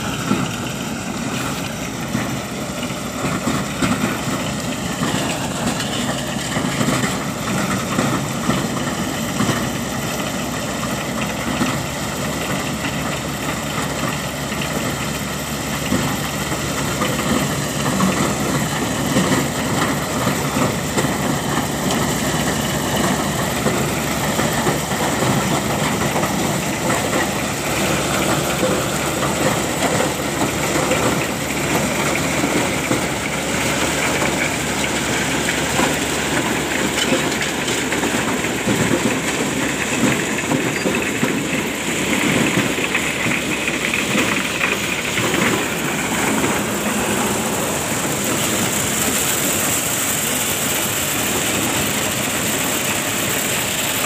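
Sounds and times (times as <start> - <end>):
harvester engine running: 0.0 - 54.0.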